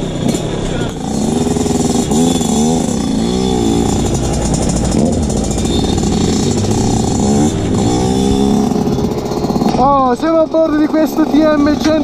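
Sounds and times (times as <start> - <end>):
two-stroke motorcycle engine revving: 0.0 - 12.0.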